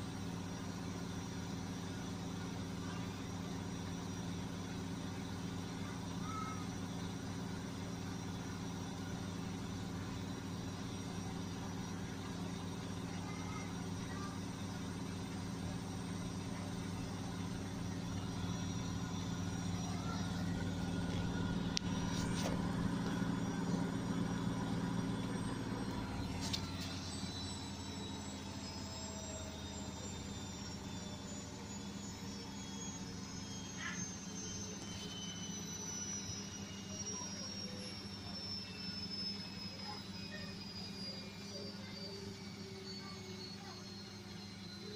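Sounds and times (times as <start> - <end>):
drum whine falling in pitch: 0.0 - 44.9
washing machine motor hum: 0.0 - 44.9.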